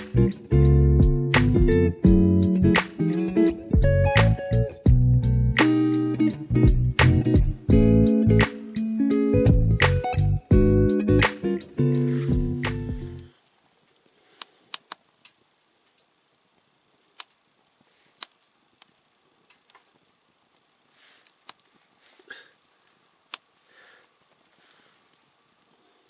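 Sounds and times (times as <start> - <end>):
campfire crackling: 0.0 - 1.7, 2.4 - 9.9, 11.1 - 26.0
faint hiss of flames: 0.0 - 1.8, 2.4 - 10.2, 10.9 - 26.0.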